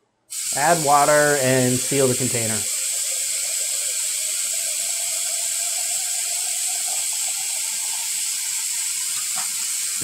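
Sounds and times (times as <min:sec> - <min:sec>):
faucet water filling a jar: 0:00.3 - 0:10.0.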